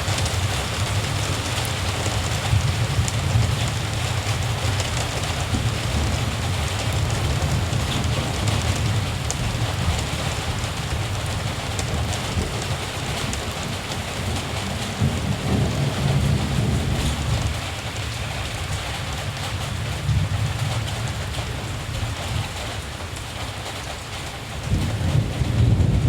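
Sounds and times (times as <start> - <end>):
distant thunder rumble: 0.0 - 22.6, 24.6 - 26.0
steady rain falling: 0.0 - 26.0.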